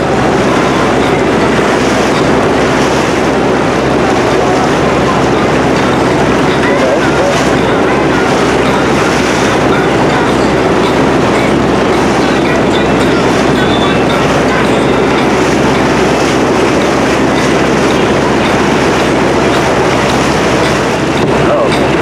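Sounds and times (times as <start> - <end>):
motorboat rumble: 0.0 - 22.0.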